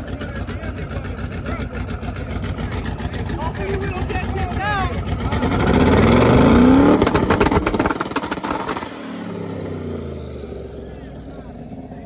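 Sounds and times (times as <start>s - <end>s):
car engine revving: 0.0s - 12.0s
exhaust crackling and popping: 0.0s - 12.0s.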